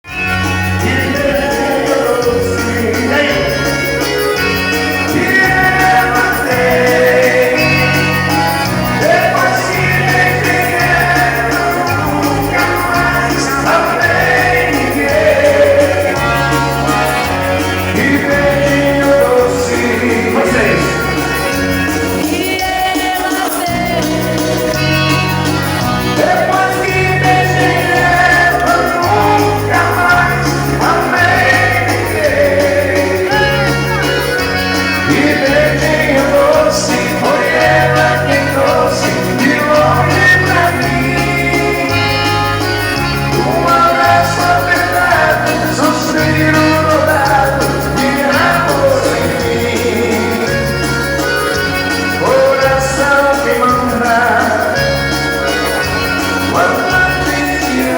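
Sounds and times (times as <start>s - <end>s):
moving bass line: 0.0s - 22.8s, 23.6s - 57.9s
live dance band playing a waltz: 0.0s - 57.9s
person singing: 0.1s - 57.9s.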